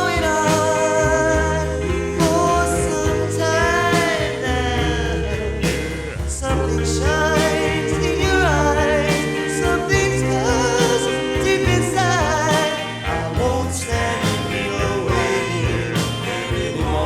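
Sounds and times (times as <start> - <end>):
rockabilly band with singing: 0.0 - 17.0.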